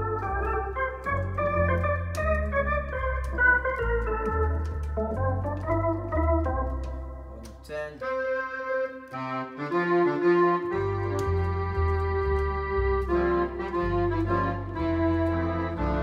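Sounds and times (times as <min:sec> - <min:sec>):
electronic organ chords: 0:00.0 - 0:16.0
pedal bass notes: 0:00.0 - 0:16.0.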